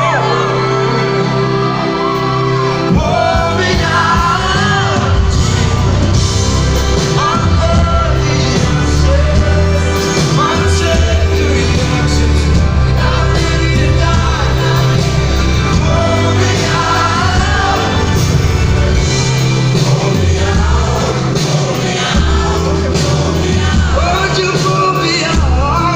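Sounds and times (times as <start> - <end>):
heavy bass: 0.0 - 25.9
live pop-rock band: 0.0 - 25.9
person singing: 0.0 - 25.9.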